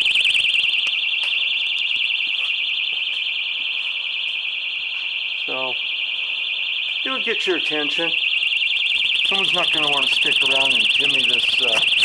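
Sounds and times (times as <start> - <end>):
high-pitched warbling alarm siren: 0.0 - 12.0.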